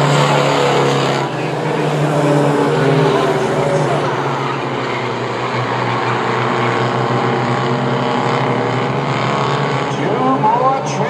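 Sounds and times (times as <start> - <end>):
race truck engines droning: 0.0 - 11.0.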